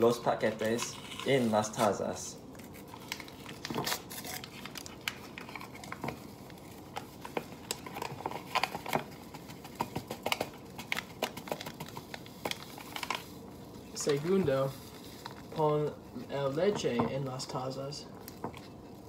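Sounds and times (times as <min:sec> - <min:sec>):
paper packets crinkling and tearing: 0:00.0 - 0:19.0.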